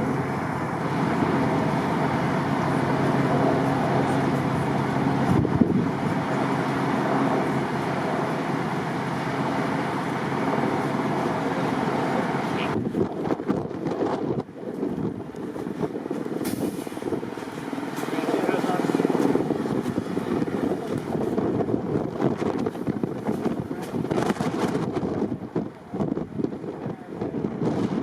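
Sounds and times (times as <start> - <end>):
vehicle engine running: 0.0 - 27.4
wind buffeting microphone: 0.0 - 28.0.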